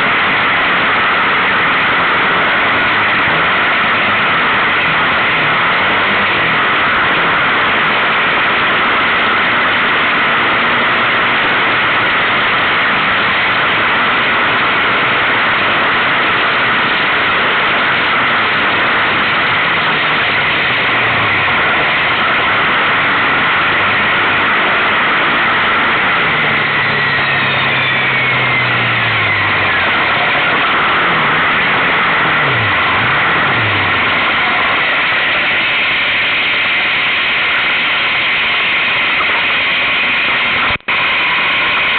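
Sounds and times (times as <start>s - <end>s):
quad bike engine running: 0.0s - 41.9s.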